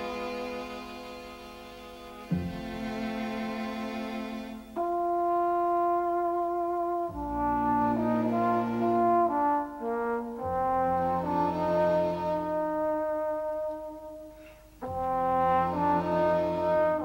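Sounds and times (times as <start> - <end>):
low brass chords: 0.0 - 17.0.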